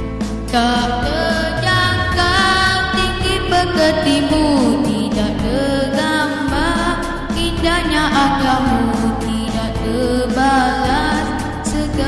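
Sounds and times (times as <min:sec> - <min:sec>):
backing track music: 0:00.0 - 0:12.0
boy singing into microphone: 0:00.5 - 0:12.0.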